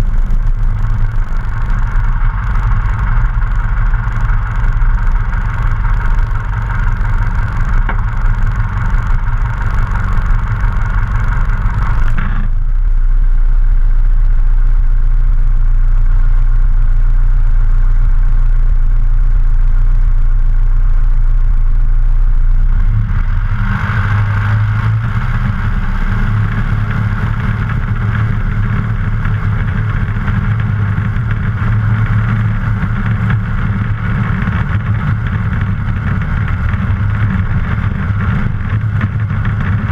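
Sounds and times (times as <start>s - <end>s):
aircraft piston engine idling: 0.0s - 39.9s
heavy low rumble: 0.0s - 39.9s.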